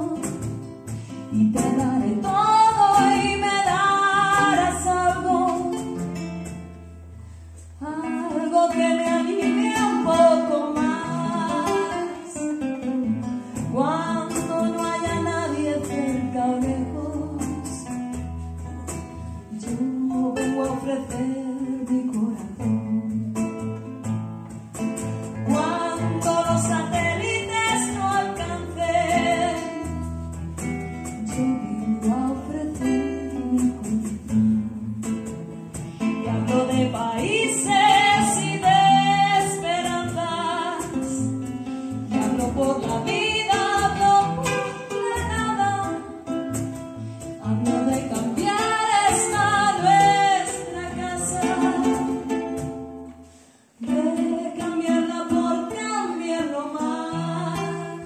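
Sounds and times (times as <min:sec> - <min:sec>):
woman singing a slow song: 0:00.0 - 0:06.2, 0:07.8 - 0:18.0, 0:19.5 - 0:23.6, 0:25.5 - 0:30.1, 0:31.0 - 0:35.4, 0:36.1 - 0:41.4, 0:42.1 - 0:46.4, 0:47.4 - 0:52.5, 0:53.8 - 0:58.0
classical guitar: 0:00.0 - 0:58.0.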